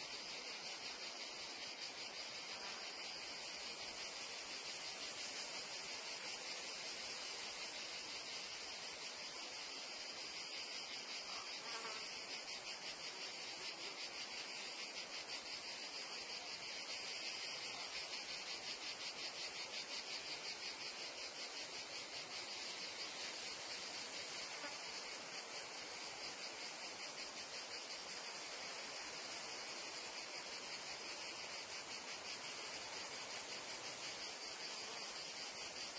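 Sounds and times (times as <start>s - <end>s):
insects chirring: 0.0s - 35.9s.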